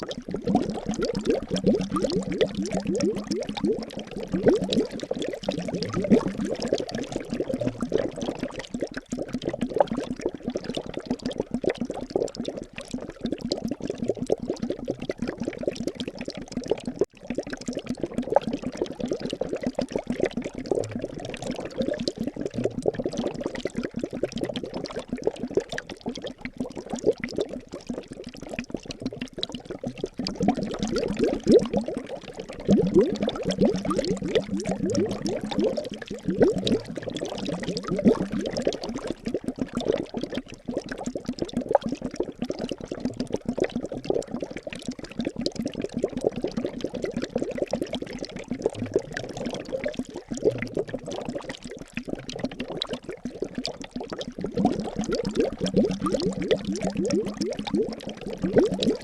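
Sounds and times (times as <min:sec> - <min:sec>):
liquid bubbling: 0:00.0 - 0:59.0.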